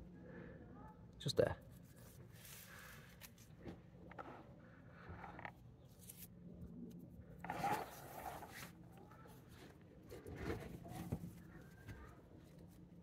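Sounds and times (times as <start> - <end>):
faint rustling and handling: 1.6 - 13.0.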